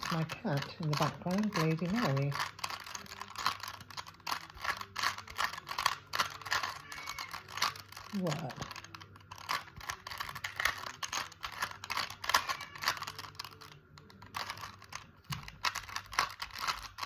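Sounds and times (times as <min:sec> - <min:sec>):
puzzle cube layers clicking: 0:00.0 - 0:17.0.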